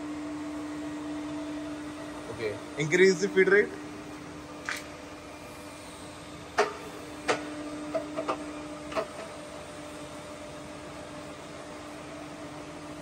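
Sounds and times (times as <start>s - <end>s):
milling machine drive hum: 0.0s - 13.0s.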